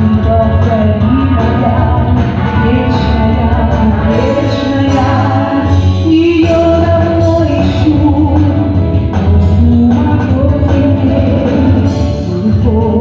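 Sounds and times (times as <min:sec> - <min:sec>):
instrumental backing track: 0:00.0 - 0:13.0
woman singing: 0:00.0 - 0:13.0.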